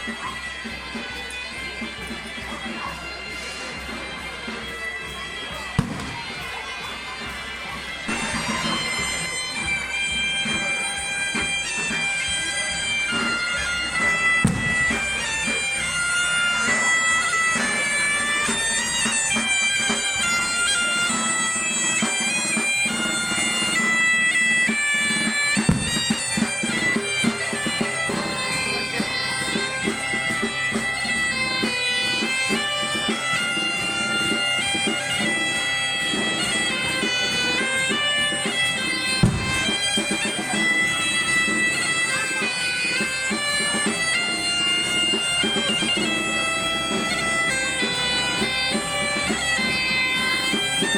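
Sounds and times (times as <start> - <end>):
bagpipe melody with drone: 0.0 - 50.9.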